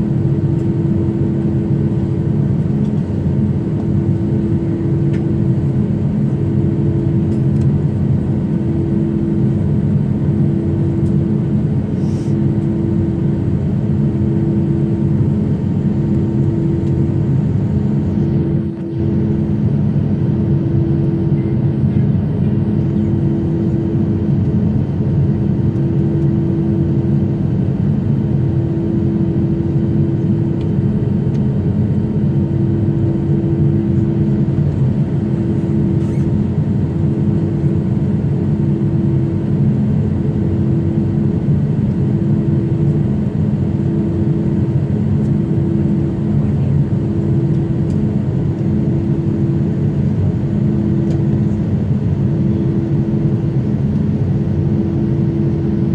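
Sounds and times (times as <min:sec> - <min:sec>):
jet engines droning: 0:00.0 - 0:55.9.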